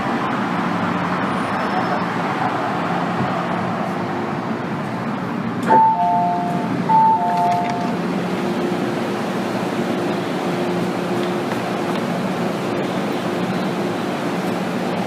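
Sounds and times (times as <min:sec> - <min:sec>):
train noise with low hum: 0:00.0 - 0:15.0.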